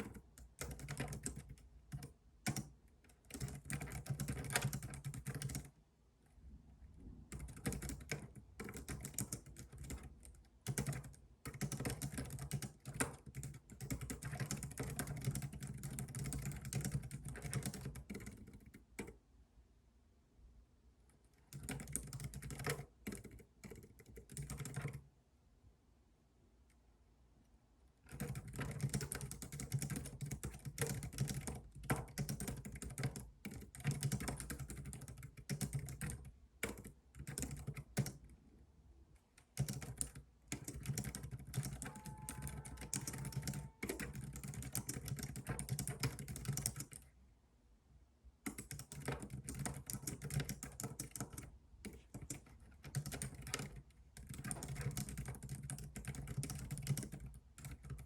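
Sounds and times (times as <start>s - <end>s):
typing on keyboard: 0.0s - 5.8s, 7.3s - 19.2s, 21.3s - 25.1s, 28.0s - 38.4s, 39.4s - 47.1s, 48.4s - 58.0s.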